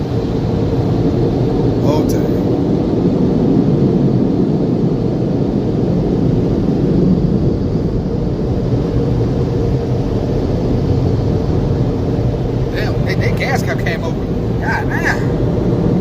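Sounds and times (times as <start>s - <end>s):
muffled car wash machinery rumbling: 0.0s - 16.0s.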